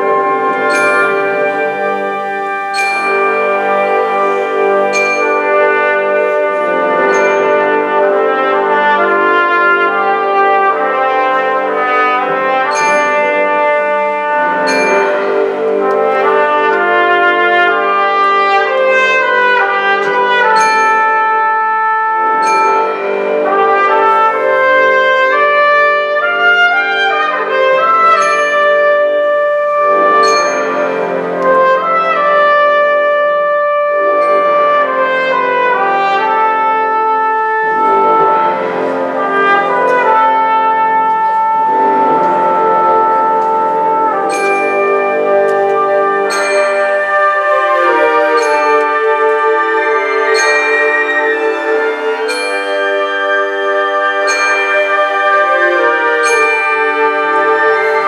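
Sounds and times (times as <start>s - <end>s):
percussion strikes: 0.0s - 58.0s
wind band playing held chords: 0.0s - 58.0s.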